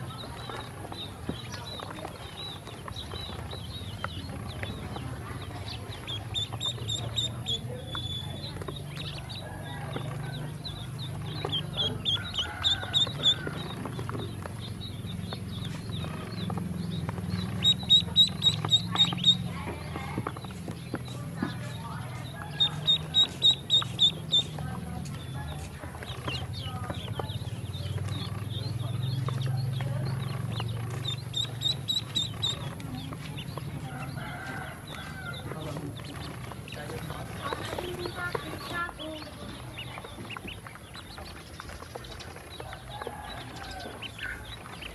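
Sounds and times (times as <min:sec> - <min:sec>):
bills pecking on plastic tub: 0:00.0 - 0:44.9
ducklings peeping: 0:00.0 - 0:44.9.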